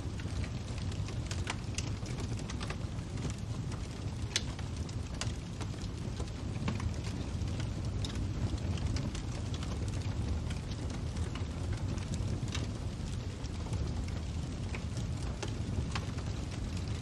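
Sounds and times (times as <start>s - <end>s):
fire rumbling: 0.0s - 17.0s
wood fire popping and snapping: 0.0s - 17.0s.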